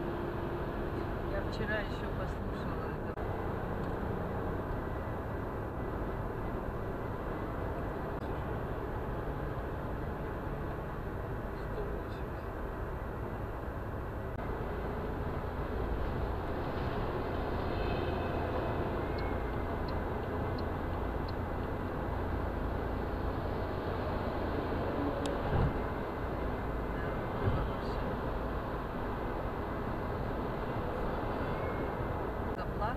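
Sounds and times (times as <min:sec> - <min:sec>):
car road and engine noise: 0:00.0 - 0:32.9.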